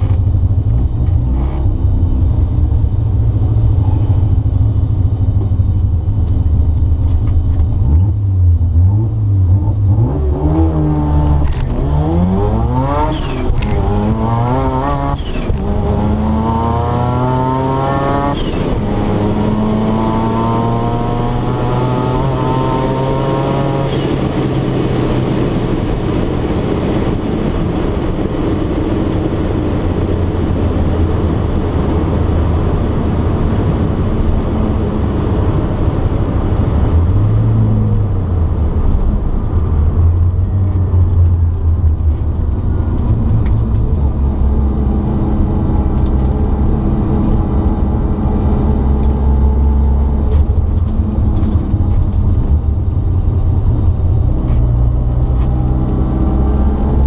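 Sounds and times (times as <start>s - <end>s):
car engine low rumble: 0.0s - 57.0s.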